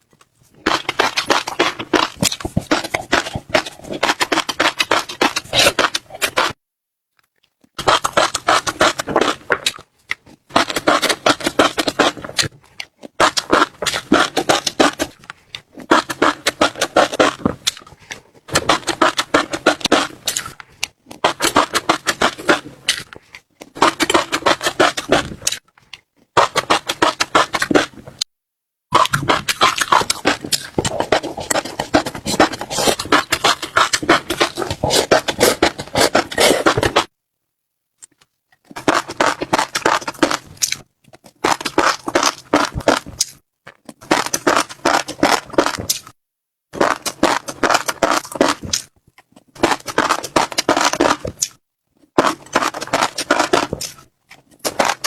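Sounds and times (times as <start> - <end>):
chewing crunchy food: 0.1 - 6.6, 7.2 - 28.3, 28.9 - 37.1, 38.0 - 55.0.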